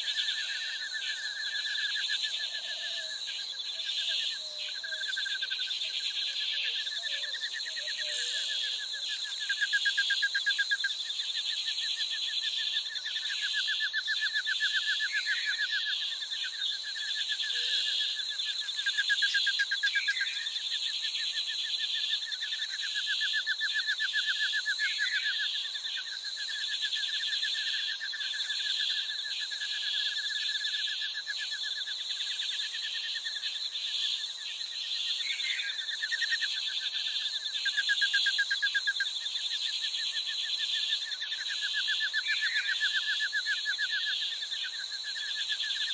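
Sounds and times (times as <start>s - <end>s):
insect trills: 0.0s - 45.9s.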